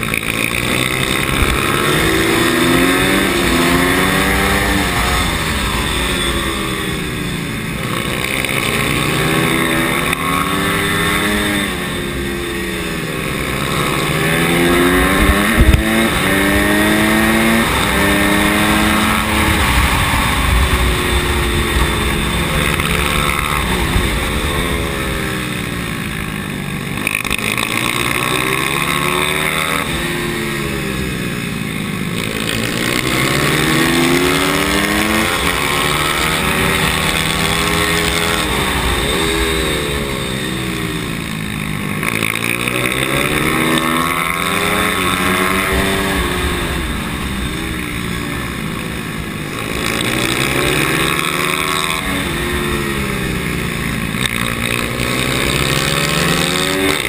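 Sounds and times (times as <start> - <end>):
other motorbike engines: 0.0 - 57.0
small motorbike engine revving: 0.0 - 57.0.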